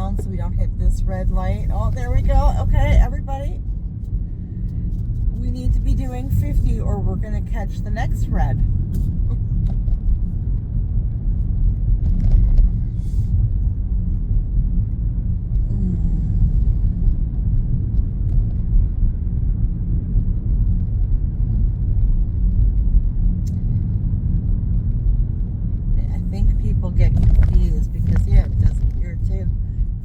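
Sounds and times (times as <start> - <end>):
car cabin road and engine rumble: 0.0 - 30.0.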